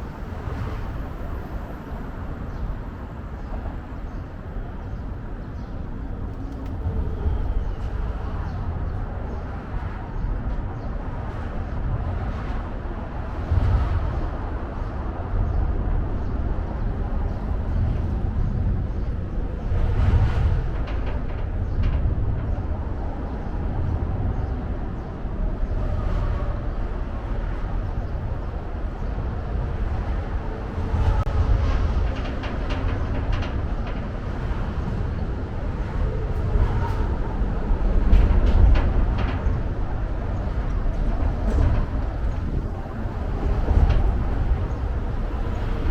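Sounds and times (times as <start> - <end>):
low city rumble: 0.0 - 45.9.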